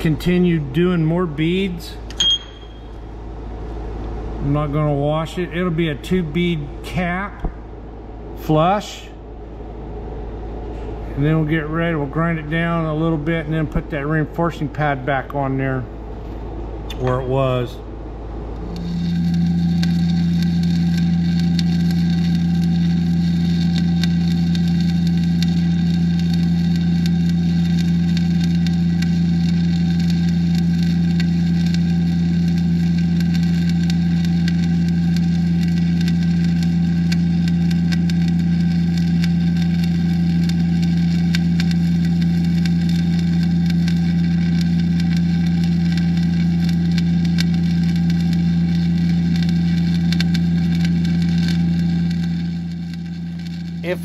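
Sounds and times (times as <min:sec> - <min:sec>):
welding arc crackling: 0:00.0 - 0:09.6, 0:10.2 - 0:54.0
welding machine low hum: 0:00.0 - 0:54.0.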